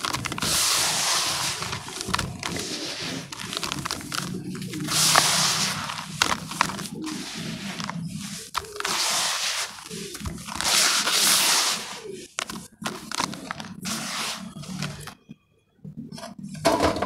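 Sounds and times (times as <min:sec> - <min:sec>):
hands crumbling dry ash: 0:00.0 - 0:15.2.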